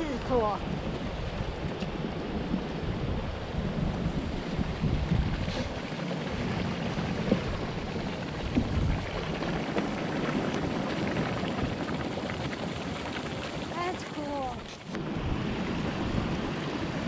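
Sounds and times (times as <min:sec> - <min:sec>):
hot water and mud bubbling: 0:00.0 - 0:17.0
low uneven rumble: 0:00.0 - 0:17.0.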